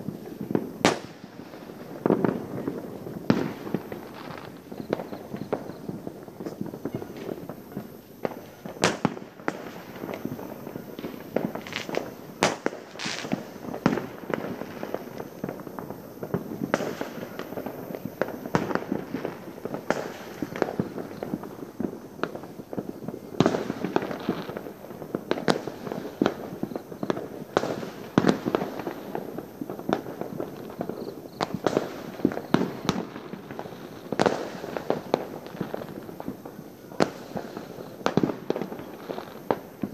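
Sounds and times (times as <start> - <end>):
distant fireworks bangs and pops: 0.0 - 39.9.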